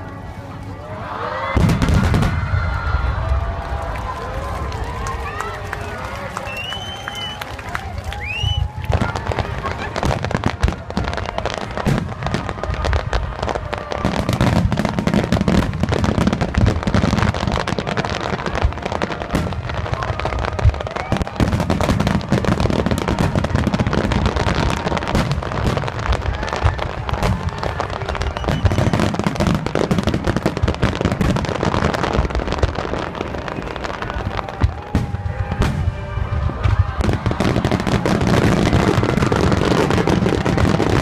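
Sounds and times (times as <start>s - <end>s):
firework crackling: 1.3s - 41.0s.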